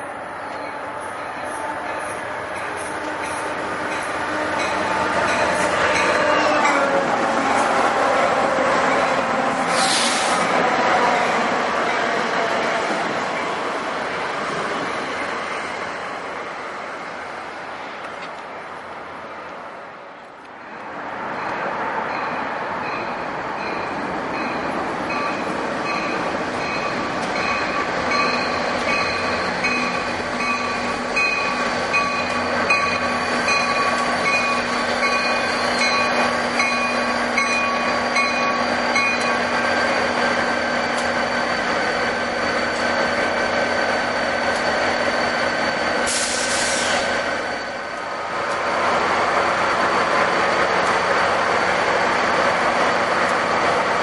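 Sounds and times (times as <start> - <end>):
train rail rumble: 0.0 - 54.0.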